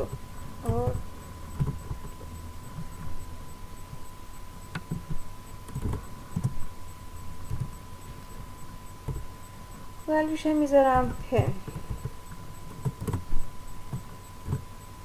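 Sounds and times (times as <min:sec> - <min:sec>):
faint steady high tone: 0:00.0 - 0:15.0.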